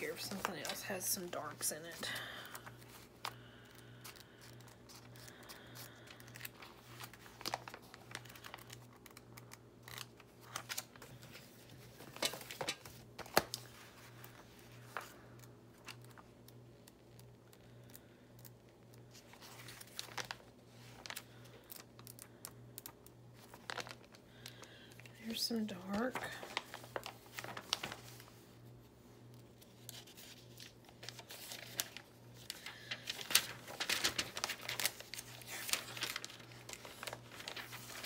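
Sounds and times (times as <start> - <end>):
magazine pages rustling: 0.0 - 38.0.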